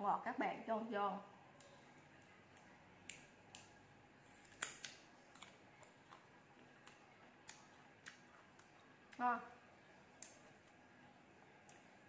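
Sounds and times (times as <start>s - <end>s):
person chewing crunchy fruit: 1.5s - 12.0s.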